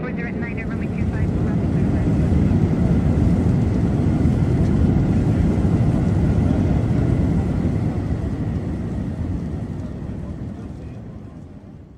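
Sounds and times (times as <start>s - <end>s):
jet engines rumbling: 0.0s - 11.9s.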